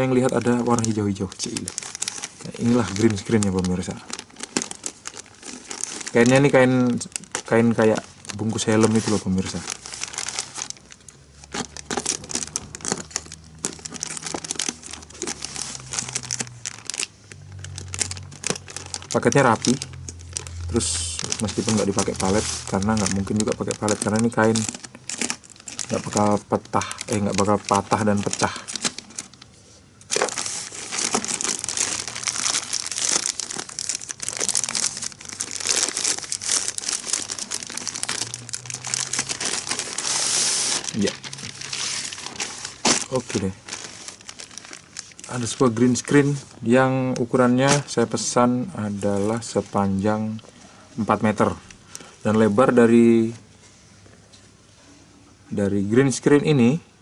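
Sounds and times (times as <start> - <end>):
plastic bag crinkling: 0.0 - 53.4.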